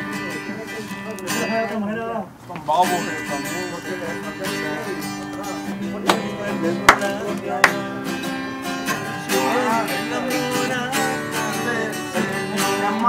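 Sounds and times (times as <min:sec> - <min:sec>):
person singing: 0:00.0 - 0:02.1, 0:02.8 - 0:13.0
acoustic guitar strumming: 0:00.0 - 0:13.0.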